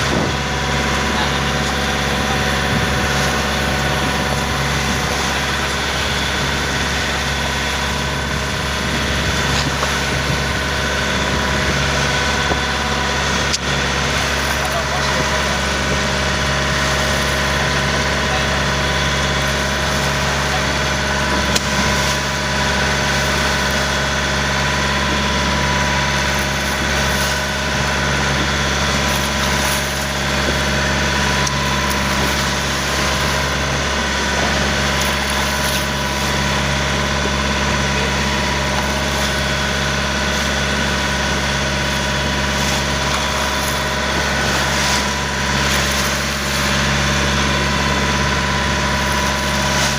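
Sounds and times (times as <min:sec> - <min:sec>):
boat engine running steadily: 0:00.0 - 0:49.9.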